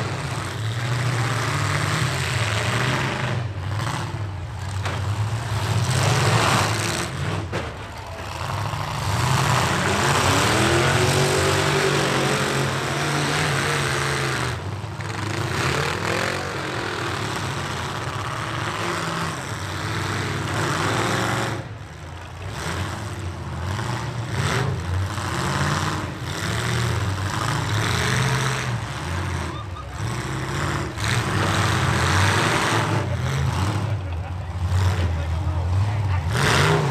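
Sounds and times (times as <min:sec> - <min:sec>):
truck engines revving: 0:00.0 - 0:36.9
trucks ramming: 0:00.0 - 0:36.9.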